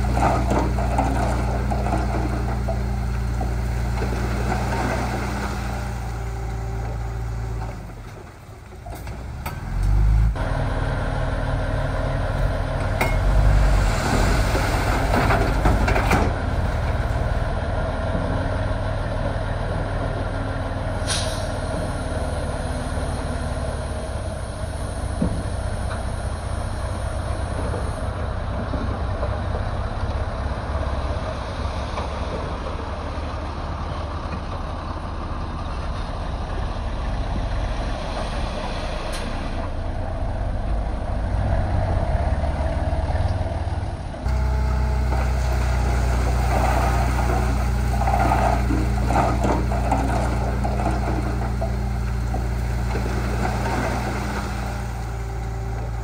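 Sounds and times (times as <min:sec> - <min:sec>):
heavy diesel machinery rumbling: 0:00.0 - 0:56.0.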